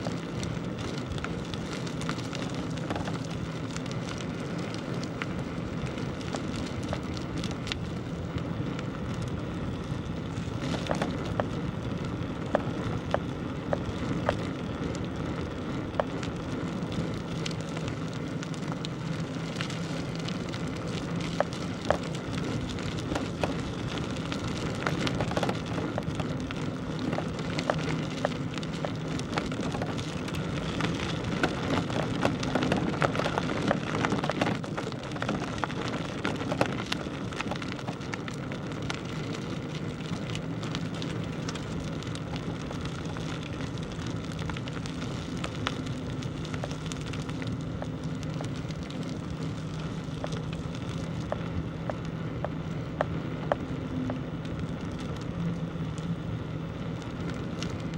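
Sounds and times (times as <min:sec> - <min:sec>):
bicycle tyres rolling on rough path: 0:00.0 - 0:57.9.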